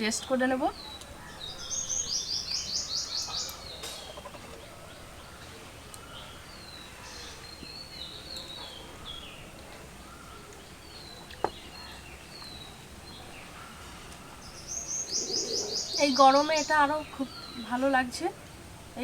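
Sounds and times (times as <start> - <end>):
birds chirping: 0.0 - 19.0
outdoor background noise: 0.0 - 19.0.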